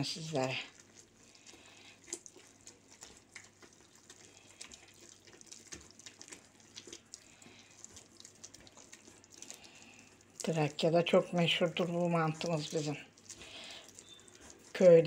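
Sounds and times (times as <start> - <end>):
hands squishing dough: 0.0 - 15.0.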